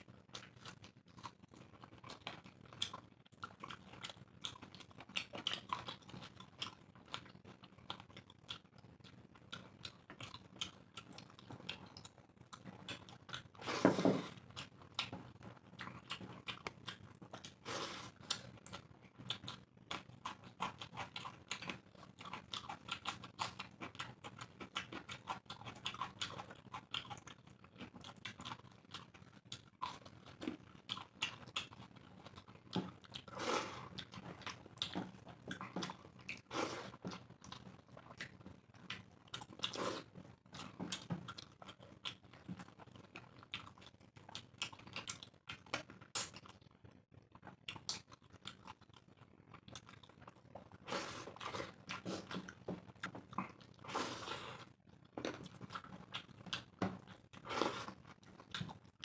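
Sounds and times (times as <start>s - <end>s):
people chewing and lip smacking: 0.0s - 59.0s.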